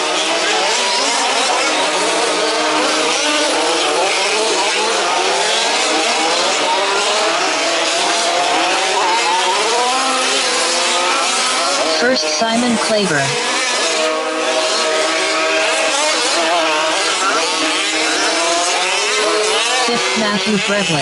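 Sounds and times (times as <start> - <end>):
small two-stroke engines revving: 0.0 - 21.0.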